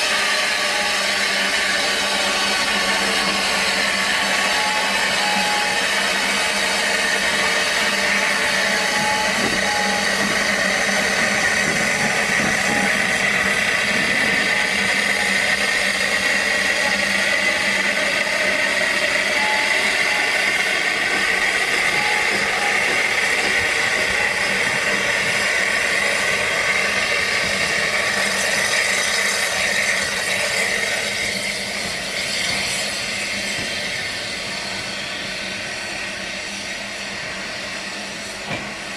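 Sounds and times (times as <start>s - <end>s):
steam locomotive hissing: 0.0s - 38.9s.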